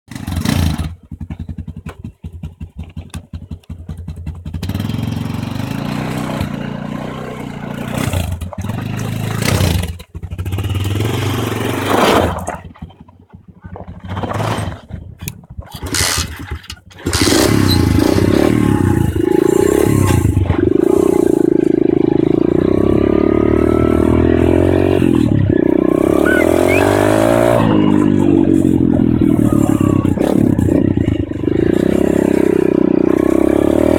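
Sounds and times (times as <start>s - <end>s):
pit bike engine revving: 0.1s - 12.8s, 15.8s - 33.9s.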